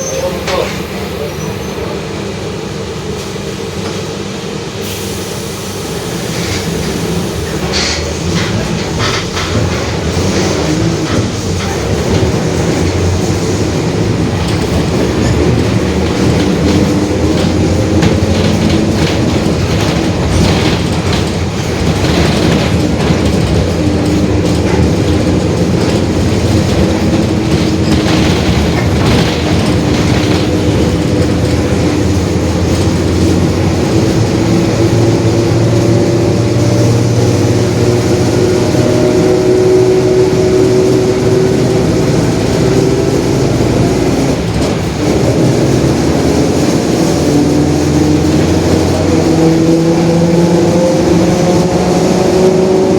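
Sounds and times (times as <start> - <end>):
bus diesel engine running: 0.0 - 52.9
road rumble: 0.0 - 52.9.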